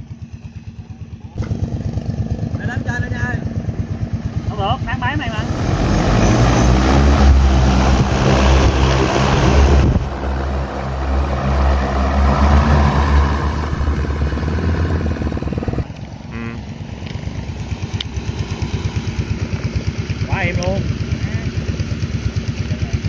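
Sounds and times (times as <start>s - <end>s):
drone rotors whirring: 2.9s - 22.2s.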